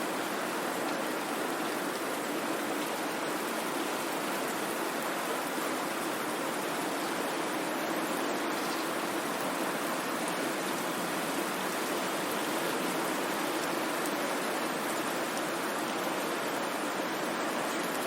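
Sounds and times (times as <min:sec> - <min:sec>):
steady white noise hiss: 0:00.0 - 0:18.0.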